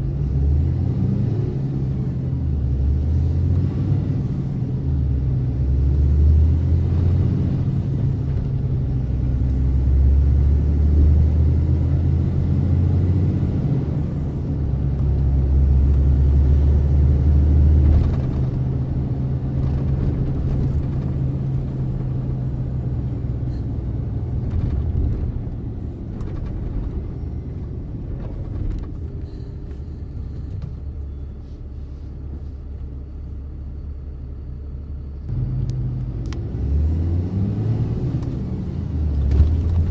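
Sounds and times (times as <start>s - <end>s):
road rumble: 0.0s - 39.9s
truck engine driving: 0.0s - 39.9s.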